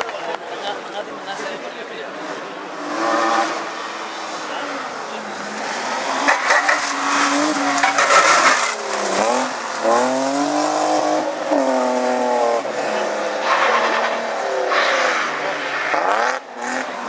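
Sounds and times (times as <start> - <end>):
rally car engine revving: 0.0 - 17.0
tyres skidding: 0.0 - 17.0.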